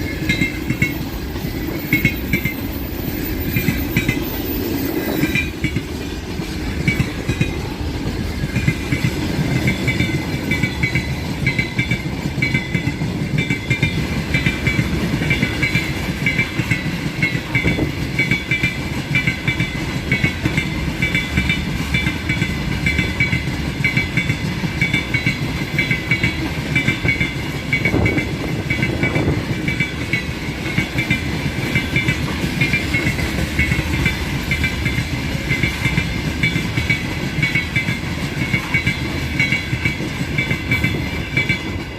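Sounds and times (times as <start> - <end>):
freight train rumbling: 0.0 - 41.9.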